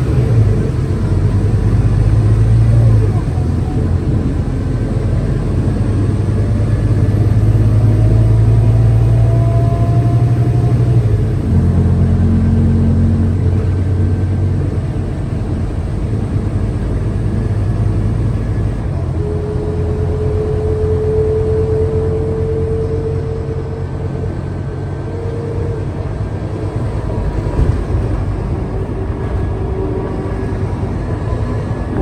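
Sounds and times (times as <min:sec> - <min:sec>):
city bus engine hum: 0:00.0 - 0:32.0.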